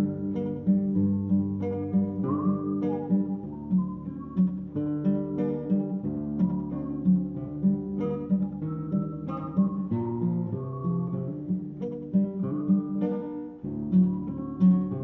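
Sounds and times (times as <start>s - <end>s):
acoustic guitar tune: 0.0s - 15.0s.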